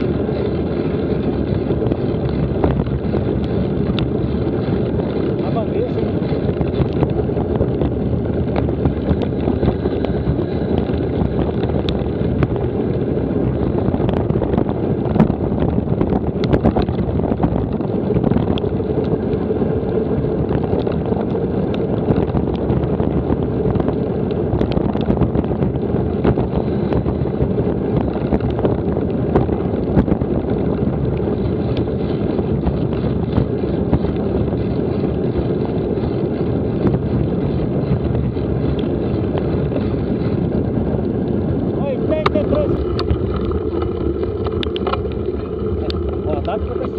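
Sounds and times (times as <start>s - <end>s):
bike ticks and knocks: 0.0s - 27.2s, 27.8s - 46.9s
wind buffeting microphone: 0.0s - 46.9s.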